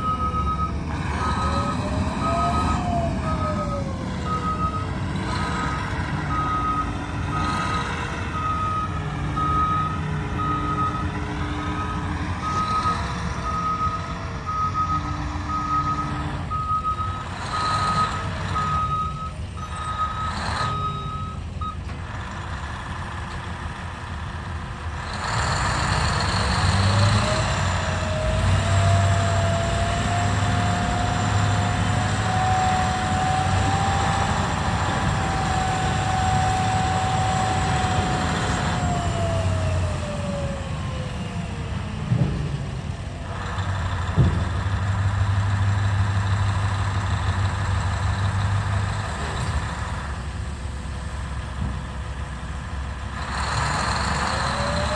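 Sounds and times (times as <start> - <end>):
diesel engine drone: 0.0 - 54.9.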